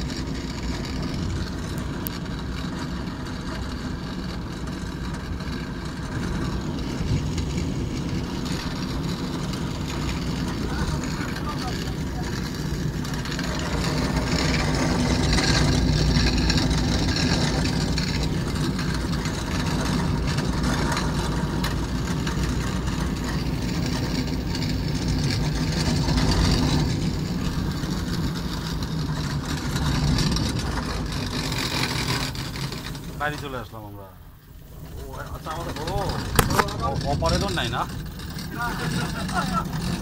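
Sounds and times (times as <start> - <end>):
cable car mechanical rumble: 0.0 - 40.0.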